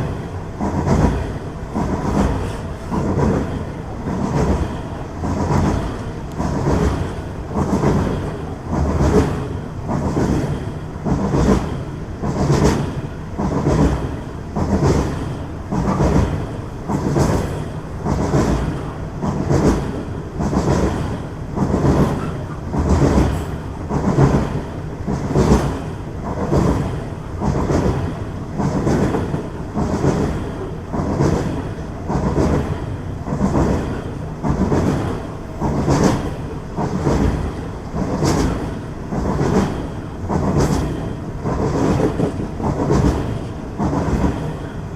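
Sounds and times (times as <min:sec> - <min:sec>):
train wheels clattering over rails: 0:00.0 - 0:44.9.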